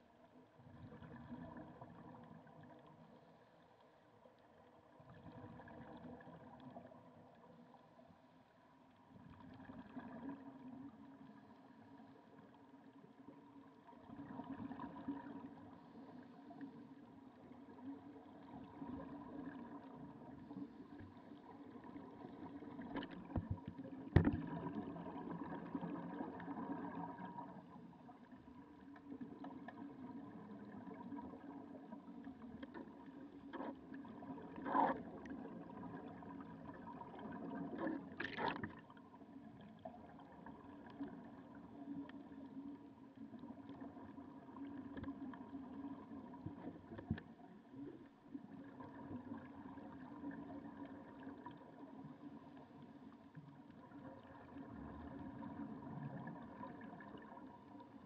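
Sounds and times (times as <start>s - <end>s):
faint underwater hum: 0.0s - 58.0s.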